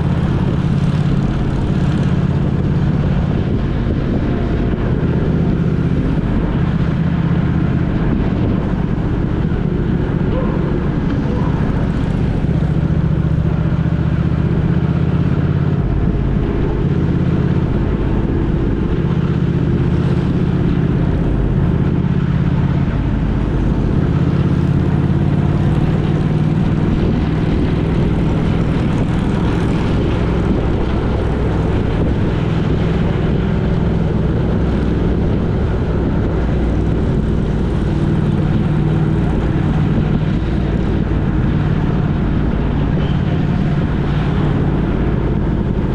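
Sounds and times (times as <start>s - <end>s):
vehicle engine and road drone: 0.0s - 45.9s.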